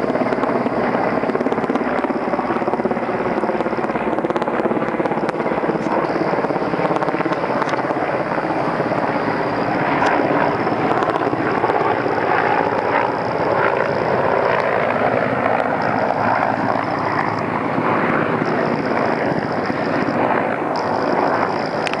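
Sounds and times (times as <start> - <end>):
helicopter rotor chop: 0.0 - 22.0.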